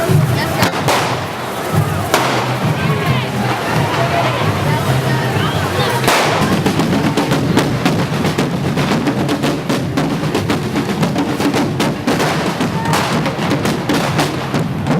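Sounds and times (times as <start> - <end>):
crackling firework bangs: 0.0 - 14.9
street drums fast beat: 0.0 - 14.9.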